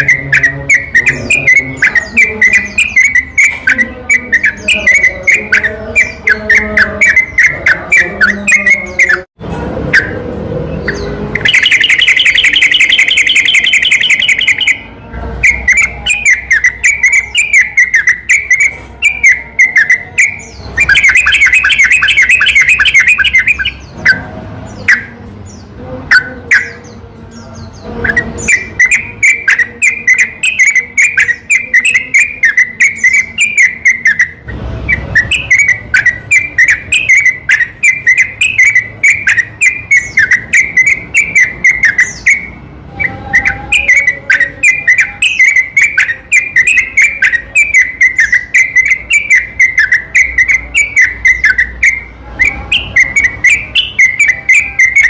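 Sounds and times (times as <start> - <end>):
bird whistled song: 0.0 - 9.3, 10.8 - 27.0, 27.6 - 55.0.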